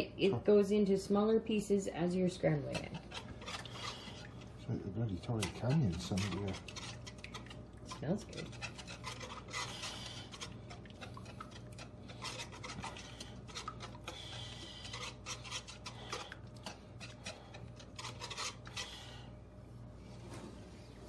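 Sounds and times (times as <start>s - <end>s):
utensil scraping eggs in a wok: 2.4s - 19.4s.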